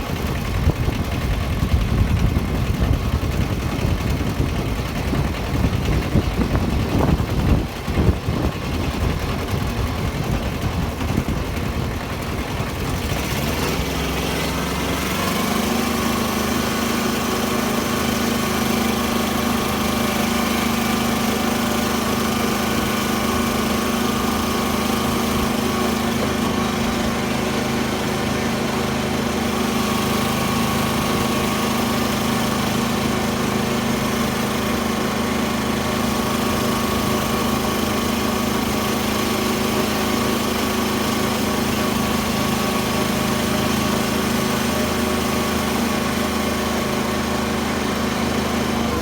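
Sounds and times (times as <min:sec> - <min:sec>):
tractor engine running: 0:00.0 - 0:49.0.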